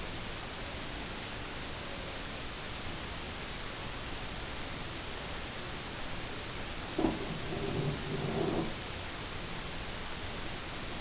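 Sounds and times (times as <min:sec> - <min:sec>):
steady room hiss: 0:00.0 - 0:11.0.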